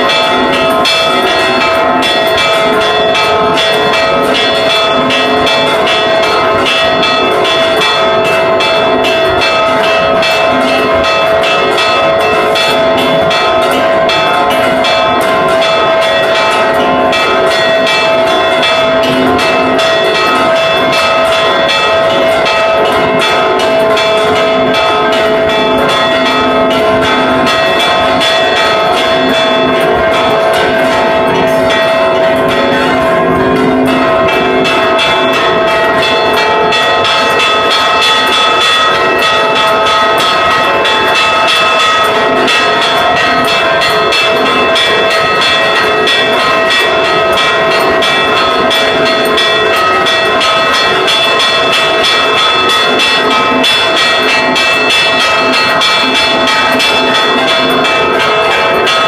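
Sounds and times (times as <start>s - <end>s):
church bells ringing rapidly: 0.0s - 59.0s.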